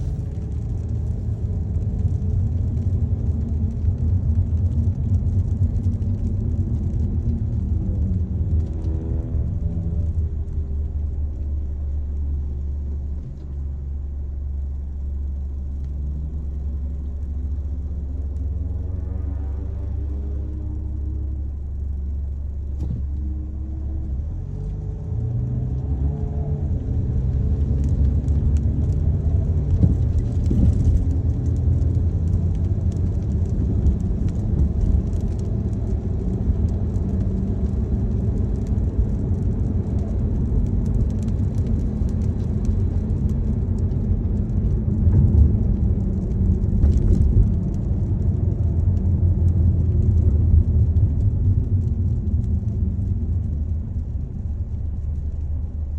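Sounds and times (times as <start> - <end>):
car engine and road rumble: 0.0 - 55.9.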